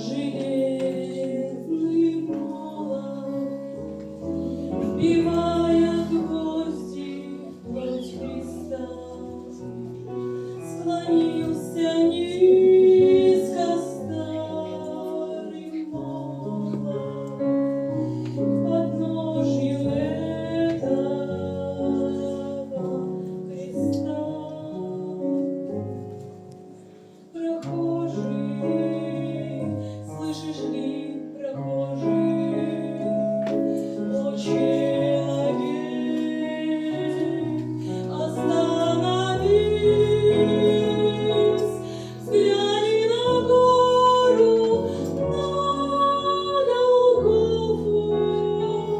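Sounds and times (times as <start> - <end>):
woman singing: 0.0 - 25.8, 27.3 - 48.9
keyboard accompaniment: 0.0 - 48.9.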